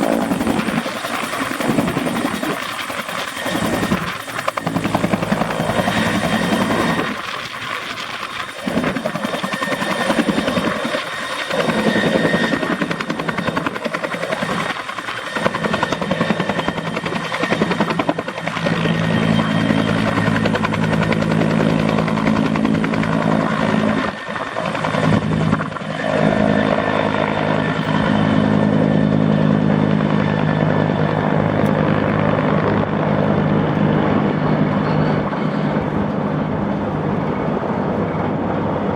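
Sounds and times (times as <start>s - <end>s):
helicopter rotor chop: 0.0s - 38.9s.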